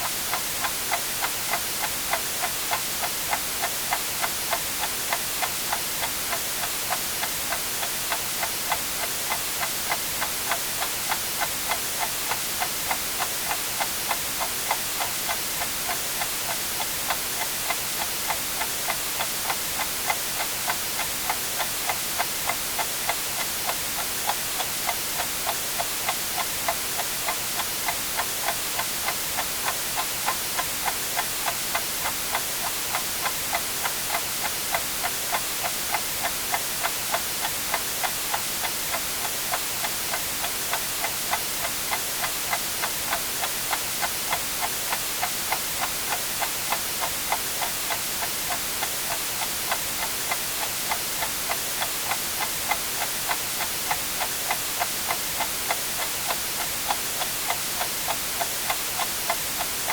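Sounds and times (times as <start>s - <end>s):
clock ticking: 0.0s - 59.9s
white noise hiss: 0.0s - 59.9s.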